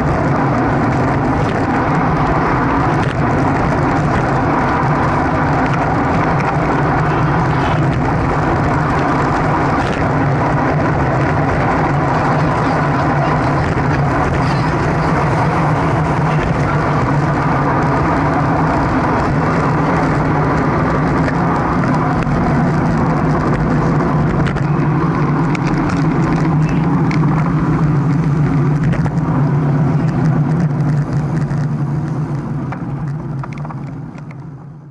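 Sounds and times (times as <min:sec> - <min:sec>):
bicycle road noise: 0:00.0 - 0:34.9
wind on microphone: 0:00.0 - 0:34.9.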